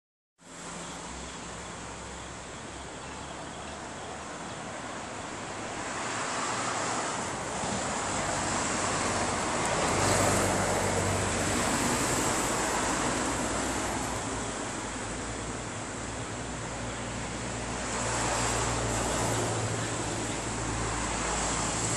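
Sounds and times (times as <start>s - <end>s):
road traffic rushing: 0.4s - 21.9s.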